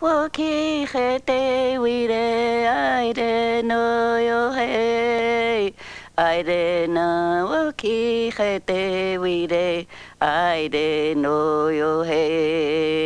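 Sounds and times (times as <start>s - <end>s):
person singing unaccompanied: 0.0s - 13.0s.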